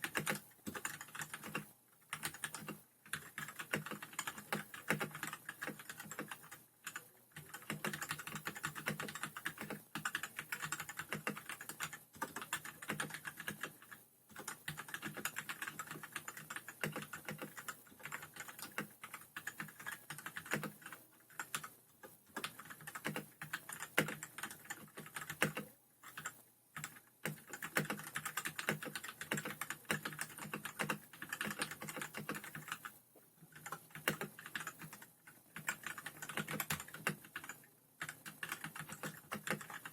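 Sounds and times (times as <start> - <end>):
mechanical keyboard typing: 0.0 - 21.7, 22.3 - 32.9, 33.5 - 39.9.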